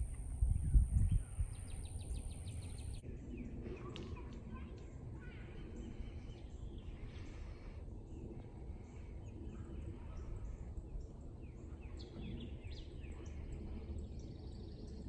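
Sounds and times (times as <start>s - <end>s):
birds chirping: 0.0s - 15.0s
low outdoor rumble: 0.0s - 15.0s.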